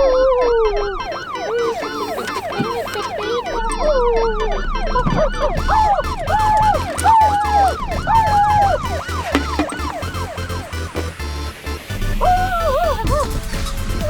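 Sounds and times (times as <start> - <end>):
emergency siren yelp: 0.7 - 13.4.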